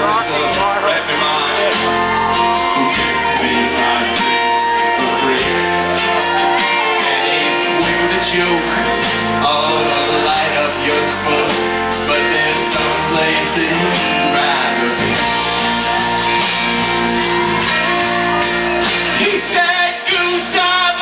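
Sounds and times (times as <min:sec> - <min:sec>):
bass notes: 0:00.0 - 0:21.0
strummed acoustic guitar: 0:00.0 - 0:21.0.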